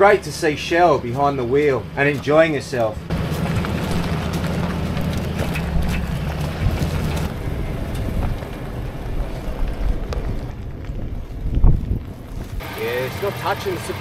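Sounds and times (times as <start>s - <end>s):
low engine hum: 0.0s - 14.0s
tyres rumbling on dirt: 0.0s - 14.0s.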